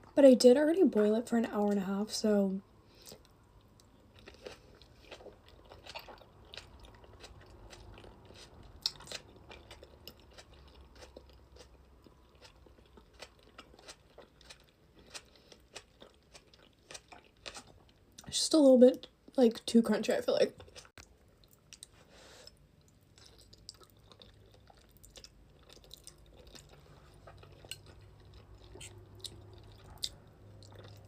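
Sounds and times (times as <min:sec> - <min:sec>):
person chewing crunchy onion: 0:03.0 - 0:18.2, 0:20.6 - 0:31.0.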